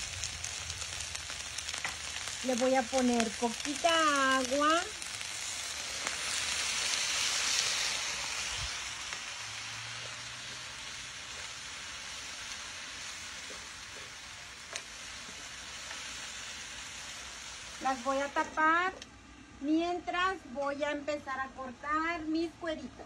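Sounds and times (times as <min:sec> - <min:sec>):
vegetables sizzling in a skillet: 0:00.0 - 0:22.8.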